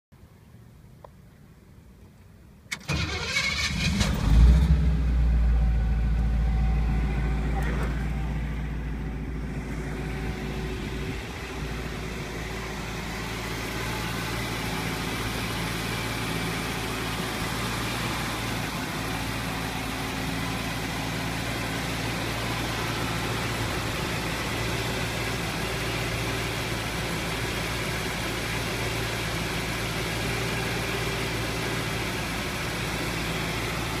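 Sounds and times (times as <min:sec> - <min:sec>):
car engine idling: 0:02.8 - 0:34.0.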